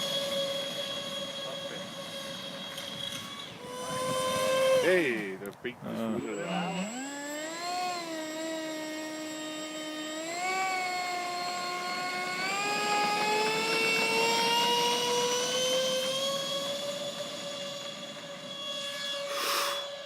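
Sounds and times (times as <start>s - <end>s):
model aircraft motor whining: 0.0s - 20.0s.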